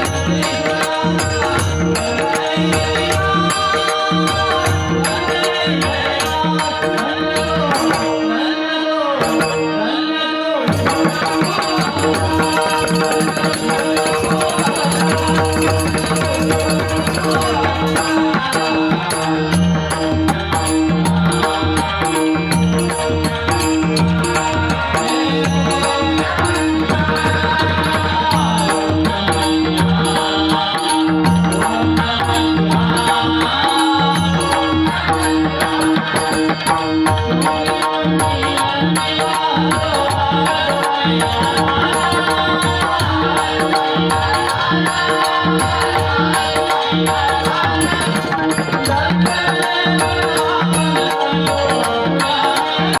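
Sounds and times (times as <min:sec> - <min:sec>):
hand drum rhythm: 0:00.0 - 0:08.3, 0:10.7 - 0:53.0
man singing: 0:00.0 - 0:53.0.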